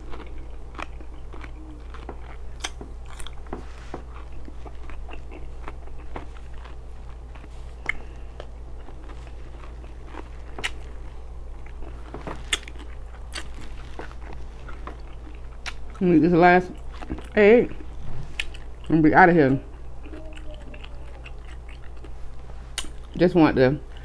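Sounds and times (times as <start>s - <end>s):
person chewing crunchy food: 0.0s - 19.0s, 19.6s - 23.2s
steady low hum: 0.0s - 24.0s.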